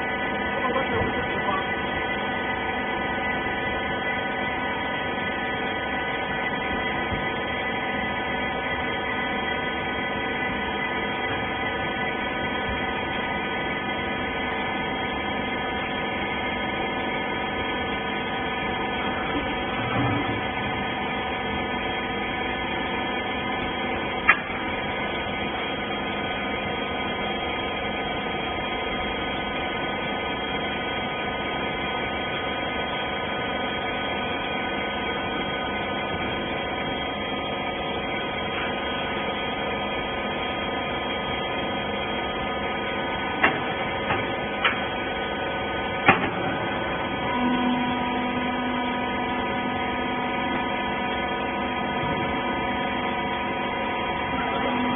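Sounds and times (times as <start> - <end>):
baling machine humming: 0.0 - 54.9
low machine tone: 0.0 - 54.9.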